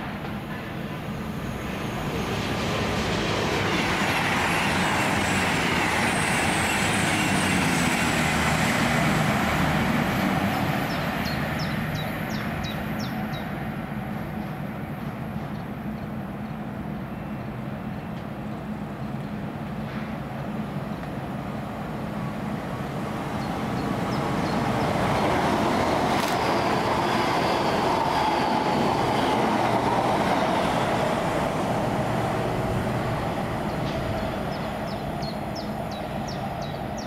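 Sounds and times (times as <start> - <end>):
train passing: 0.0 - 37.0.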